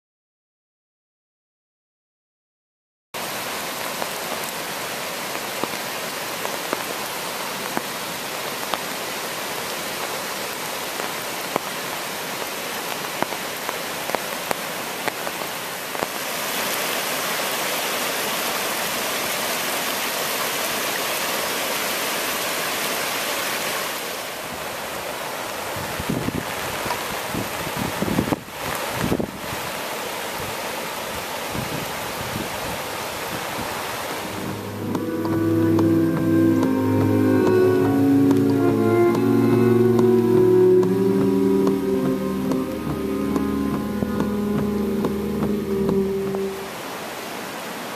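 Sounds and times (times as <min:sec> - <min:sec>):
floodwater rushing: 0:03.2 - 0:27.8, 0:28.4 - 0:47.9.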